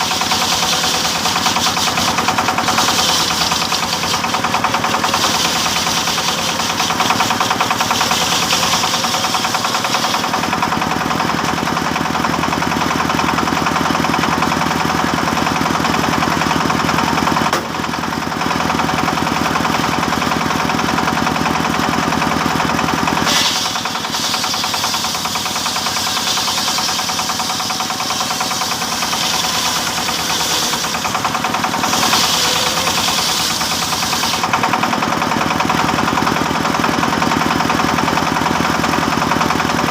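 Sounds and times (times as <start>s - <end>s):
sawing machine cutting wood: 0.0s - 39.9s.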